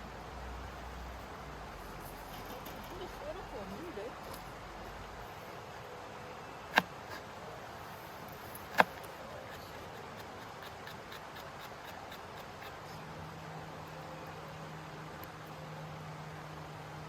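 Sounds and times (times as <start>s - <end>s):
steady faint hiss: 0.0s - 17.0s.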